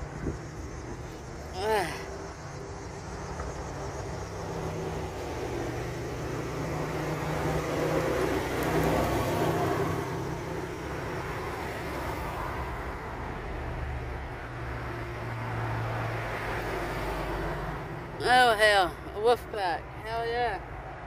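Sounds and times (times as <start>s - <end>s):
low traffic rumble: 0.0s - 21.0s
vehicle passing: 0.0s - 21.0s.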